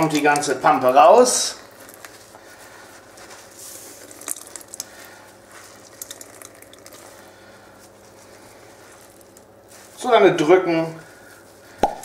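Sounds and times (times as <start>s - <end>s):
juice dripping into bowl: 0.0s - 9.9s, 11.1s - 12.0s
wet squishing of grated potatoes: 0.0s - 12.0s.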